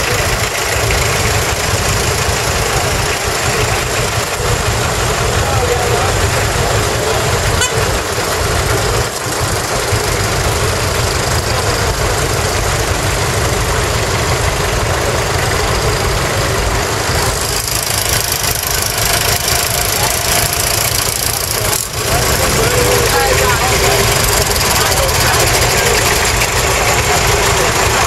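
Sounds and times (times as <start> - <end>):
tractor engines idling: 0.0 - 28.0.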